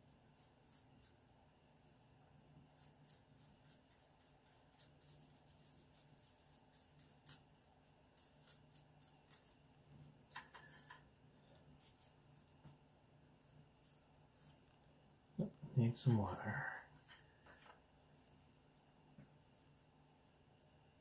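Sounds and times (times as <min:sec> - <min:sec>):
brush scratching on paper: 0:00.0 - 0:01.4, 0:02.3 - 0:15.0, 0:16.8 - 0:21.0.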